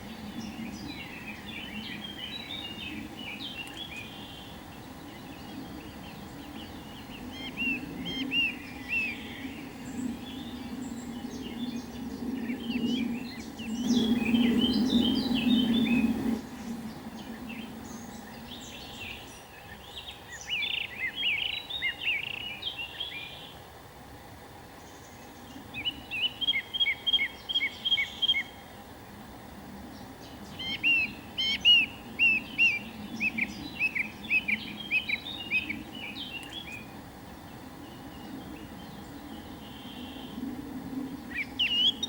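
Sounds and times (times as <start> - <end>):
songbirds chirping: 0.0 - 42.0
steady background hiss: 0.0 - 42.0.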